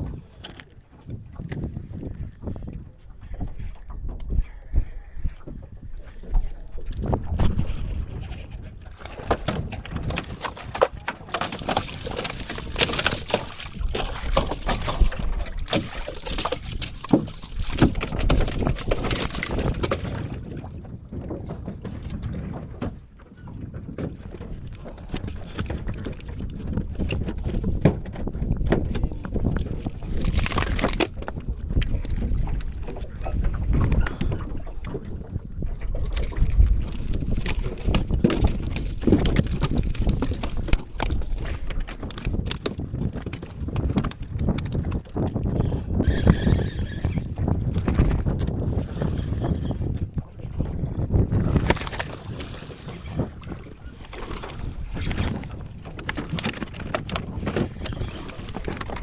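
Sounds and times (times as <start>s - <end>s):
small boat on water: 0.0s - 59.0s
wind on microphone: 0.0s - 59.0s.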